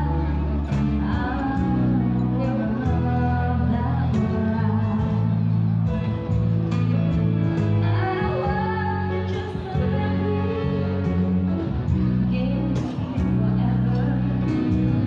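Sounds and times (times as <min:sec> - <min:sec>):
woman singing ballad: 0:00.0 - 0:06.4, 0:07.5 - 0:15.0
electric bass notes: 0:00.0 - 0:15.0.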